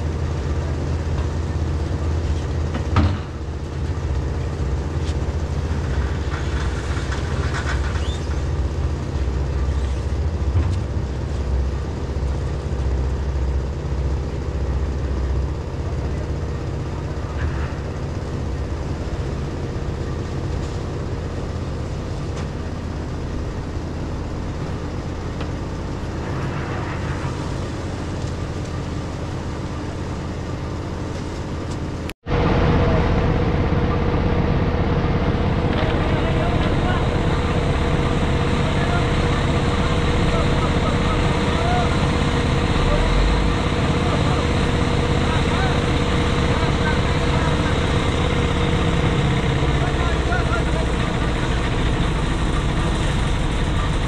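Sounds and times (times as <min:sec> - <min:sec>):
machinery engine droning: 0:00.0 - 0:54.0.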